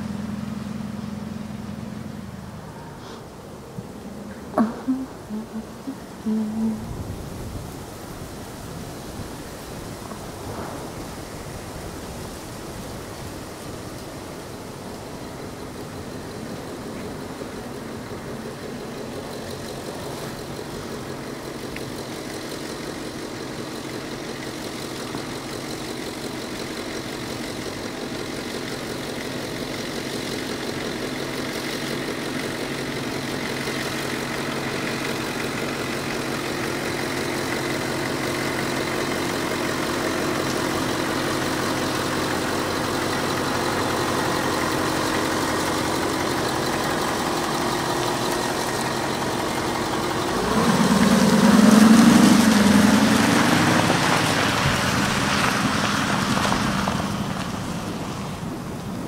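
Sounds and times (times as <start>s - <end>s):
diesel engine running at low revs: 0.0s - 59.0s.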